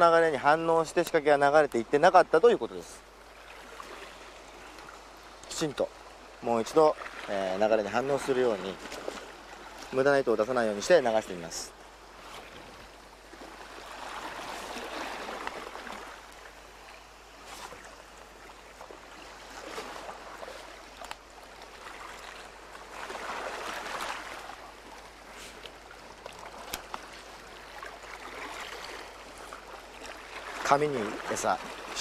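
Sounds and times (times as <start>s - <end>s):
sea water washing around rocks: 0.0s - 32.0s.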